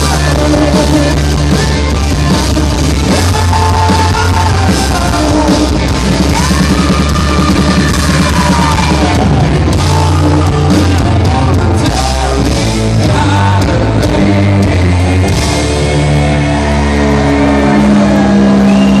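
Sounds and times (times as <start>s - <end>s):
hard rock band playing live: 0.0s - 19.0s.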